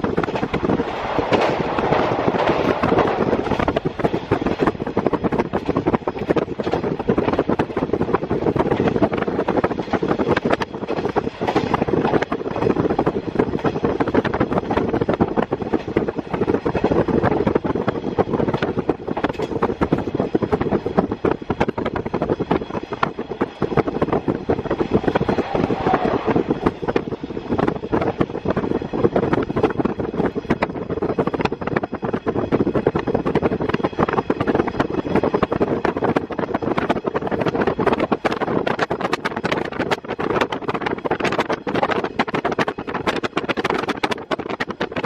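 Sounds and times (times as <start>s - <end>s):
train wheels on rails: 0.0s - 45.0s
wind rushing through window: 0.0s - 45.0s.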